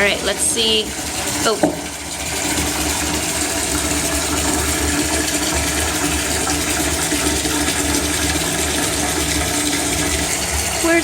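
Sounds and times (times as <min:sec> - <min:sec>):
water pouring into bathtub: 0:00.0 - 0:11.0.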